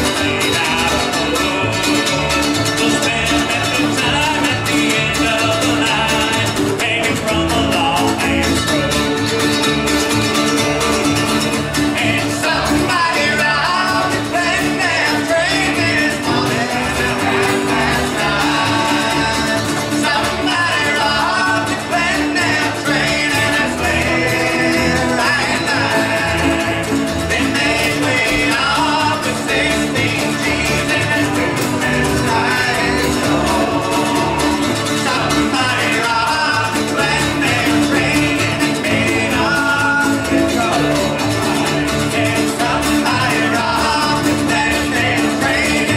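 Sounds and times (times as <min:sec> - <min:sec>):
bluegrass band playing: 0:00.0 - 0:45.9.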